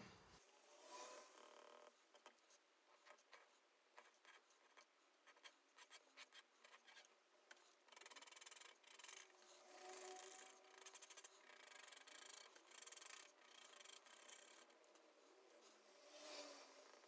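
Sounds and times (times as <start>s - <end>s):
pen scratching on paper: 1.2s - 15.8s.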